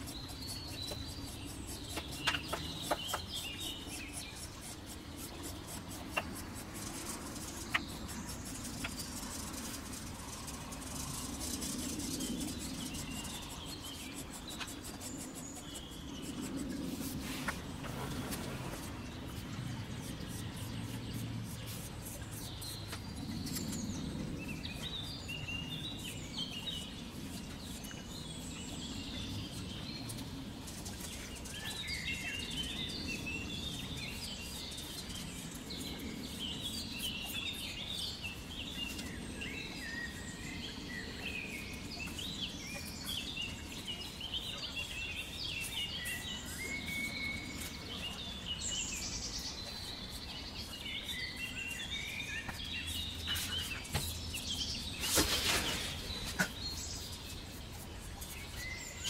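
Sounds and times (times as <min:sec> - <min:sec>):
low background noise: 0:00.0 - 0:59.0
small birds chirping: 0:00.0 - 0:59.0.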